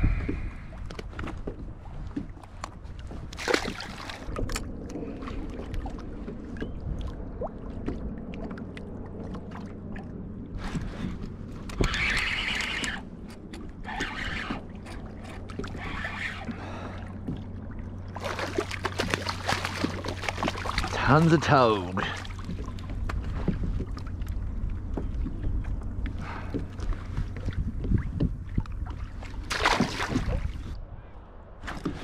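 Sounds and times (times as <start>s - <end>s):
water lapping against kayak hull: 0.0s - 31.0s
wind: 0.0s - 32.0s.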